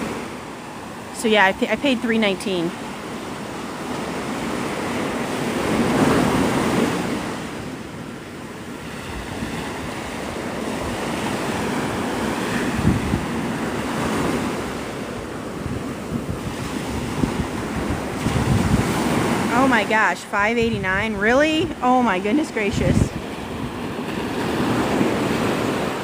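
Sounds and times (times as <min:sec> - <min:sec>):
surf breaking on beach: 0:00.0 - 0:26.0
wind buffeting microphone: 0:01.4 - 0:26.0.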